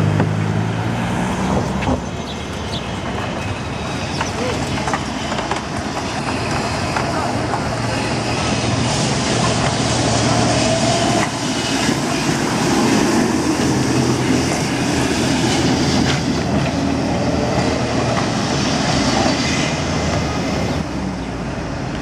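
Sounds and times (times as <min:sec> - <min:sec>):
tram clatter: 0:00.0 - 0:22.0
tram wheels rumbling on rails: 0:00.0 - 0:22.0.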